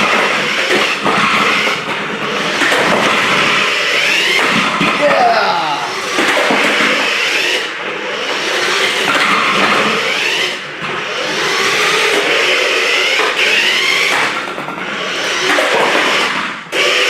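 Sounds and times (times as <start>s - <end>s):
wheels rolling and skidding on floor: 0.0s - 5.3s, 5.9s - 17.0s
toy car electric motor whining: 0.0s - 17.0s.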